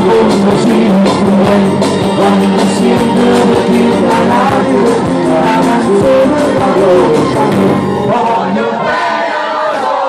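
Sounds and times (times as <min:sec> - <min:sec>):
man singing into microphone: 0:00.0 - 0:09.8
live pop band: 0:00.0 - 0:10.0.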